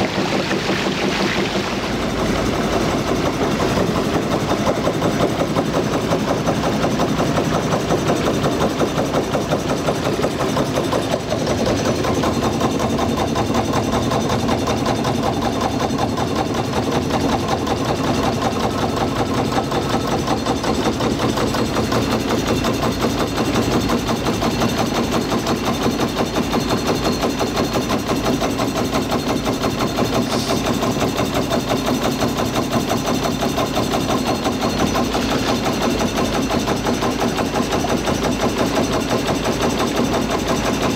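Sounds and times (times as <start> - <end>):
steam engine running: 0.0 - 40.9.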